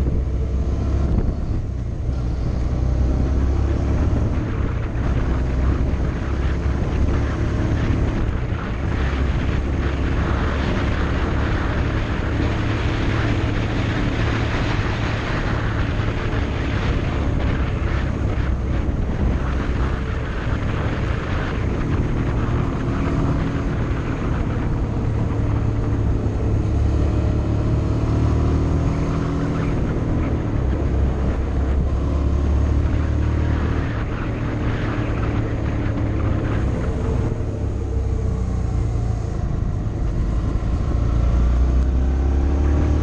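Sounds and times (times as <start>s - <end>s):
wind noise: 0.0s - 43.0s.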